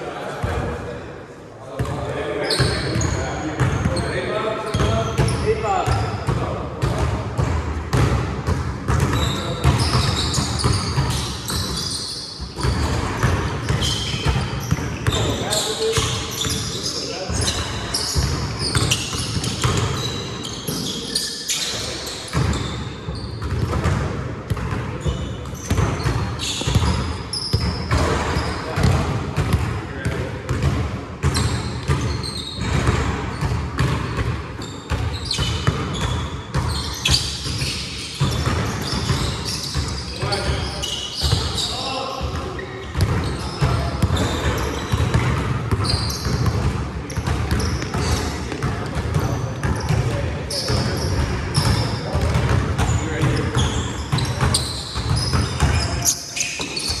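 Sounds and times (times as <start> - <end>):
sneakers squeaking: 1.8 - 57.0
basketball bouncing on wood floor: 4.7 - 16.7, 17.3 - 20.8, 22.3 - 41.6, 42.2 - 57.0.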